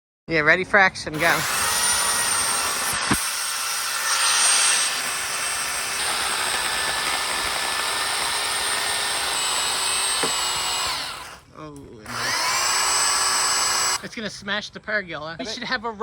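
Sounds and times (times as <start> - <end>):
chainsaw cutting tree: 1.2 - 14.1.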